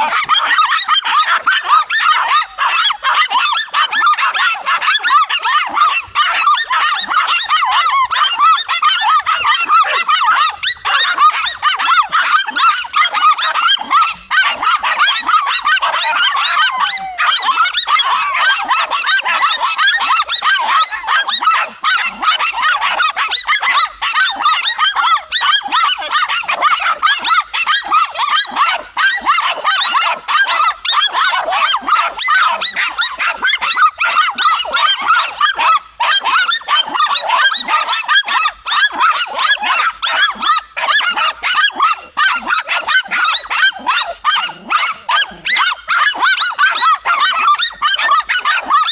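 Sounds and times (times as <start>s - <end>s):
dogs barking and yapping: 0.0s - 48.9s.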